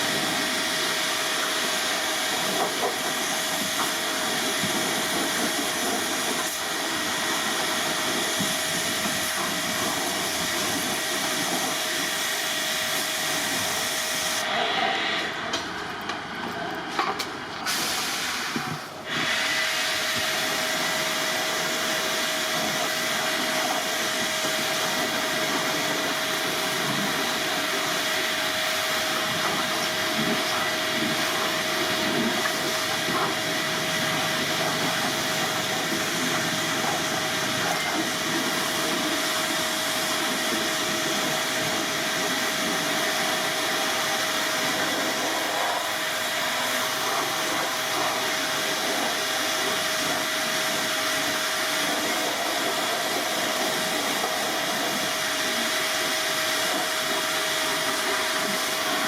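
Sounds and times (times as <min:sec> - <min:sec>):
hissing spray: 0:00.0 - 0:15.2, 0:17.6 - 0:59.0.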